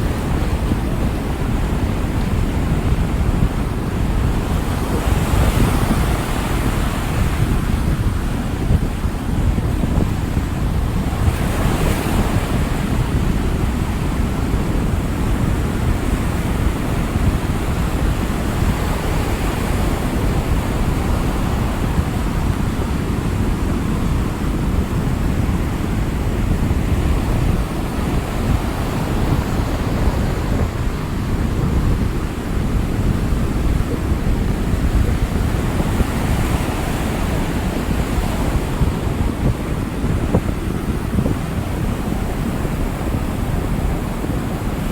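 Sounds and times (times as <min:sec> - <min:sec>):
waves breaking: 0:00.0 - 0:44.9.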